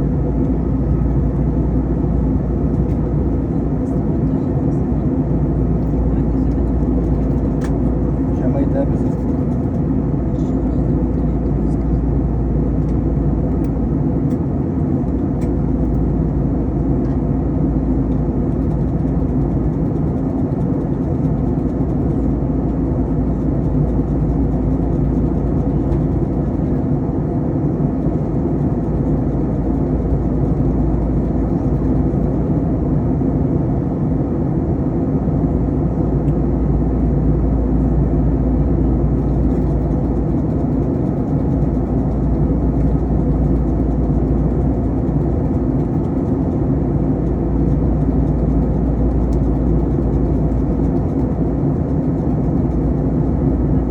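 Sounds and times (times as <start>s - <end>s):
airflow rushing in aircraft cabin: 0.0s - 53.9s
jet engines droning: 0.0s - 53.9s.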